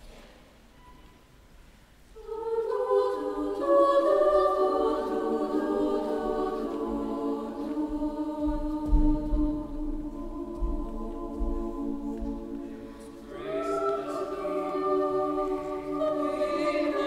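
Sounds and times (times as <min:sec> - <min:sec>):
mixed choir singing chords: 0:02.2 - 0:17.0.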